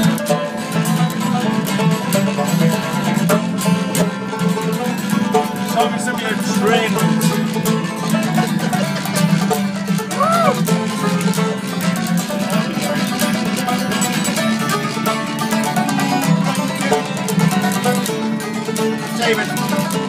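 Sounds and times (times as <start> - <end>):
acoustic guitar strumming: 0.0 - 20.0
plucked strings playing: 0.0 - 20.0.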